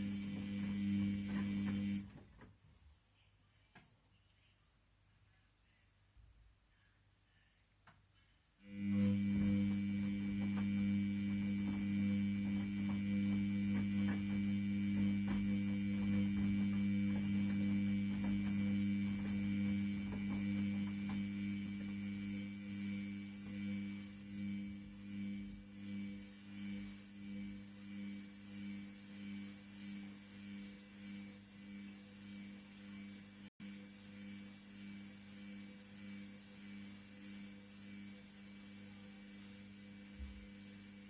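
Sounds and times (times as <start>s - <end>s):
washing machine motor humming: 0.0s - 2.5s, 8.7s - 41.0s.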